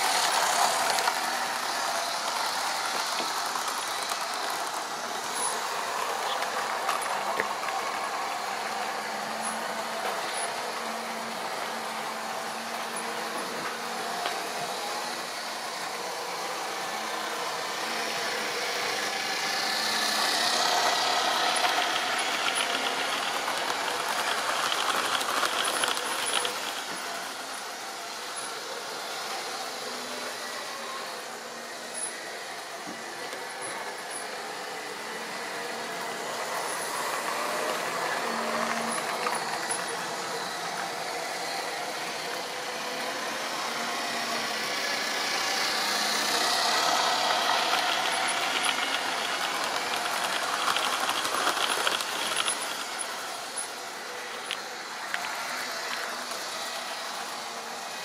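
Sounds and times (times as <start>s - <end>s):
model trains running on track: 0.0s - 58.0s.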